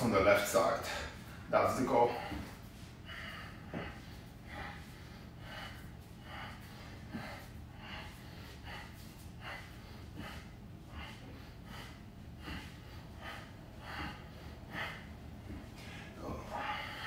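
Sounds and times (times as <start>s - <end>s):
man breathing hard in puffs: 0.0s - 17.0s.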